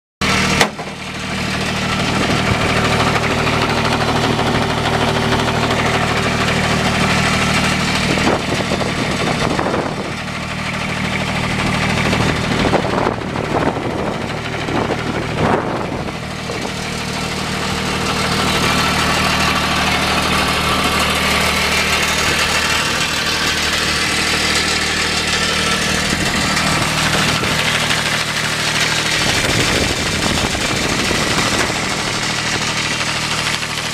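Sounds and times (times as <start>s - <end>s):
diesel engine idling: 0.2s - 33.9s
engine knocks: 0.2s - 33.9s.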